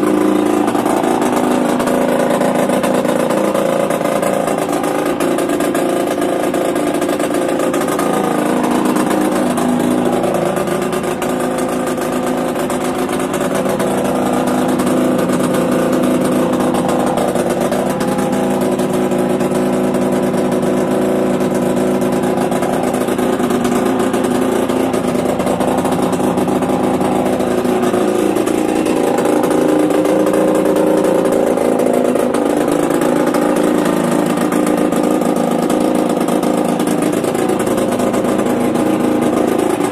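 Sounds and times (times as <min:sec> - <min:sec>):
engine revving: 0:00.0 - 0:39.9
two-stroke motorcycle engine idling: 0:00.0 - 0:39.9.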